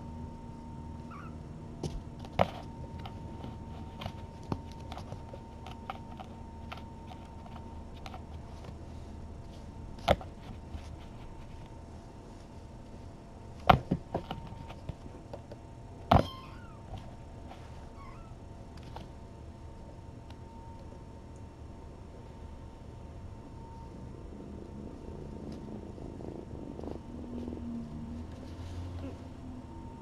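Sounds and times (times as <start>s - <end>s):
faint electrical hum: 0.0s - 30.0s.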